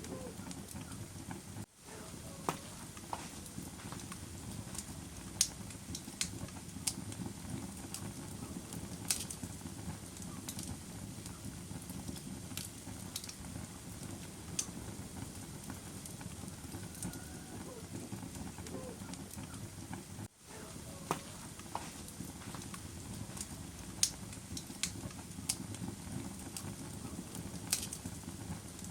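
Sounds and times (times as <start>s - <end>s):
bonfire crackling and popping: 0.0s - 28.9s
low rush of burning: 0.0s - 28.9s.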